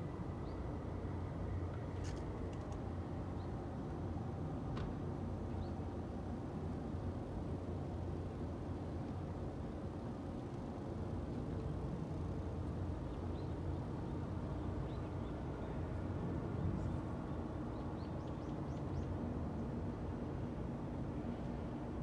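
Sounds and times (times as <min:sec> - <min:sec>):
city traffic hum: 0:00.0 - 0:22.0.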